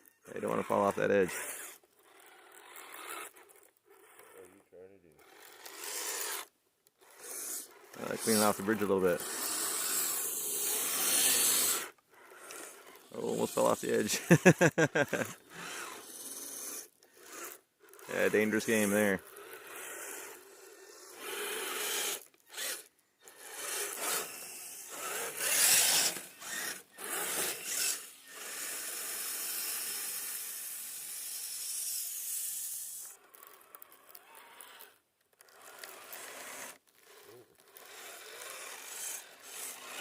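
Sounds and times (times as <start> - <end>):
electric drivetrain whirring: 0.3 - 40.0.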